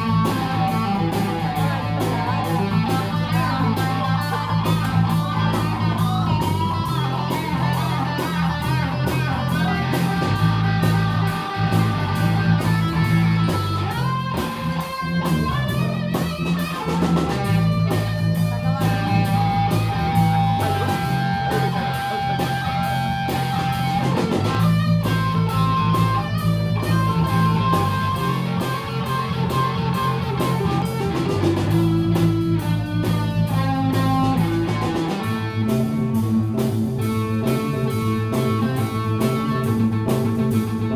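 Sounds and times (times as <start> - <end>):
bass line: 0.0 - 40.9
drums with cymbal hits: 0.0 - 40.9
electric guitar: 0.0 - 40.9.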